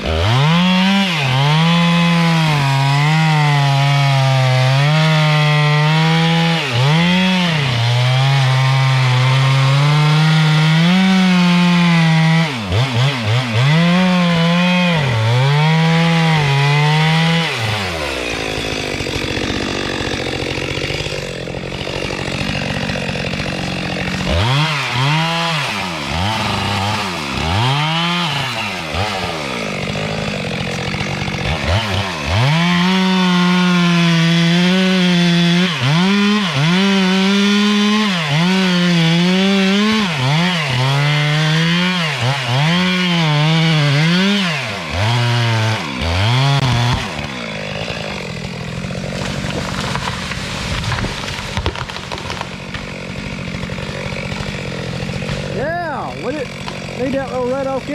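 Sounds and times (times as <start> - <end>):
chainsaw revving and cutting wood: 0.0 - 57.9.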